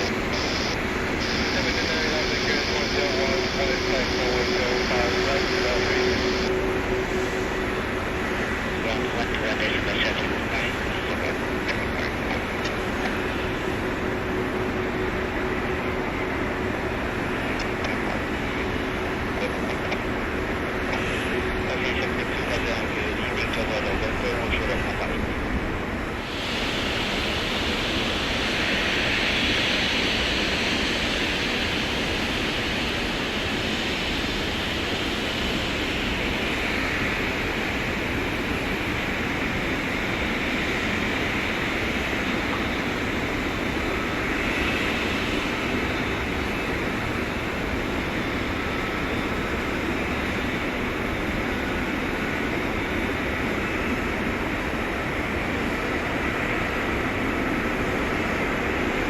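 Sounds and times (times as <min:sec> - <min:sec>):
jet engines rushing hiss: 0:00.0 - 0:59.0.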